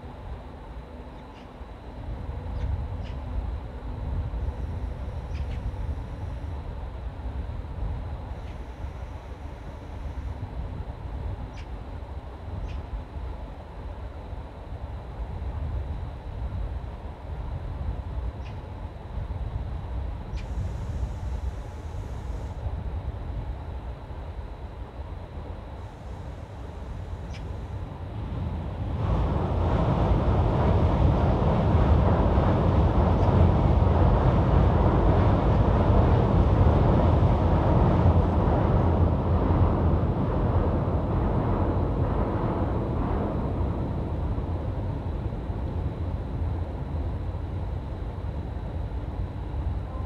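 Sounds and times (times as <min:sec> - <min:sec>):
train rumbling across steel bridge: 0:00.0 - 0:50.0.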